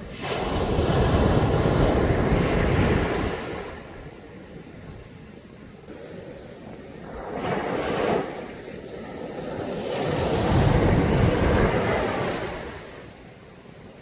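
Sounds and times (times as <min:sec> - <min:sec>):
sea waves breaking on a beach: 0:00.0 - 0:14.0.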